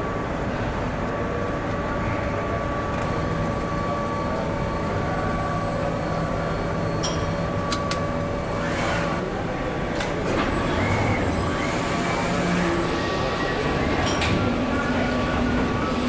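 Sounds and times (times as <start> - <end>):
production machinery humming: 0.0 - 16.0.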